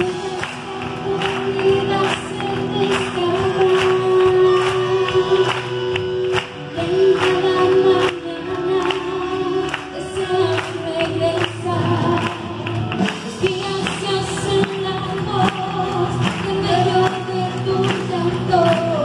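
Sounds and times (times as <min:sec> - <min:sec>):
bass guitar: 0:00.0 - 0:19.0
electric guitars: 0:00.0 - 0:19.0
worship band playing: 0:00.0 - 0:19.0.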